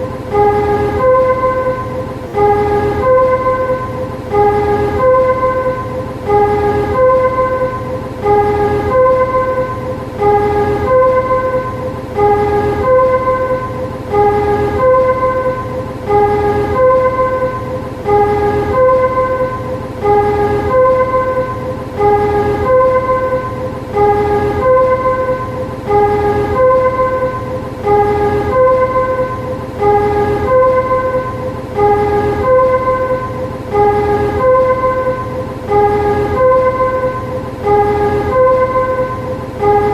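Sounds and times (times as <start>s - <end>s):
two-note electronic warning chime: 0.0s - 39.9s.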